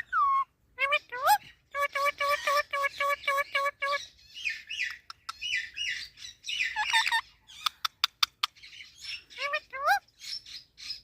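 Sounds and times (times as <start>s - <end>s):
parakeet calling: 0.0s - 11.0s
parakeet chattering squeaky calls: 0.8s - 11.0s.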